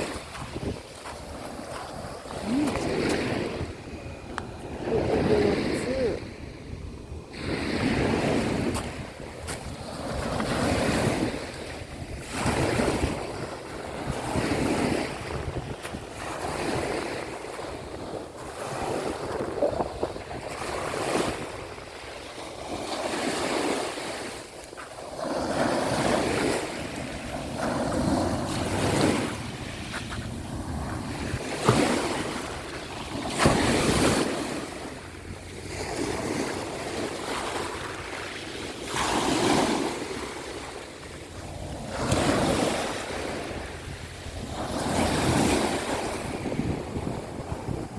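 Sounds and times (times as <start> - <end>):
sea waves breaking: 0.0 - 47.9
wind rumbling on microphone: 0.0 - 47.9.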